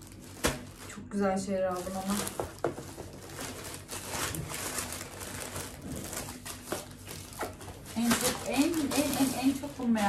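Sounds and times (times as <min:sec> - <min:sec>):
plastic packaging rustling: 0:00.0 - 0:10.0.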